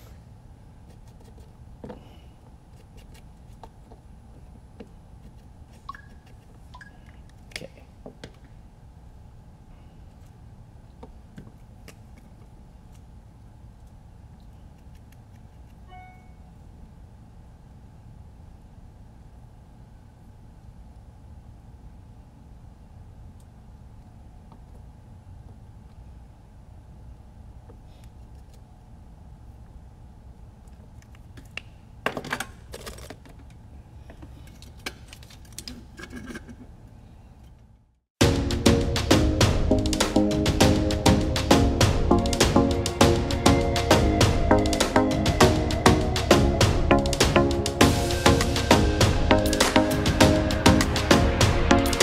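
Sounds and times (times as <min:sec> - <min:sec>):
steady low hum: 0:00.0 - 0:32.0, 0:36.5 - 0:52.0.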